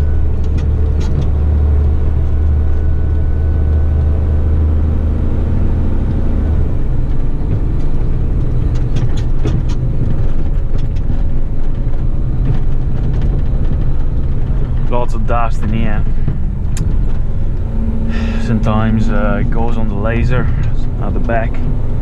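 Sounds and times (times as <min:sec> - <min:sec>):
truck diesel engine rumbling: 0:00.0 - 0:22.0
truck knocks and rattles: 0:00.0 - 0:22.0.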